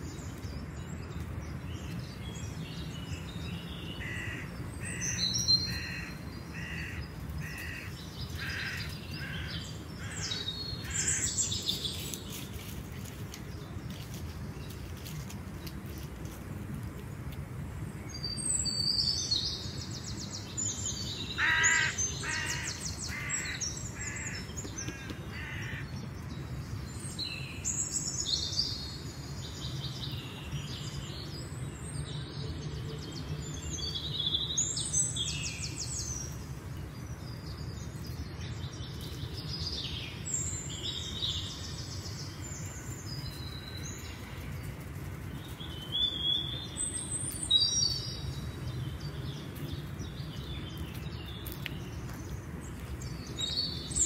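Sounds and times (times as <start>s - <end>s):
birds singing and calling: 0.0s - 17.2s, 17.8s - 54.0s.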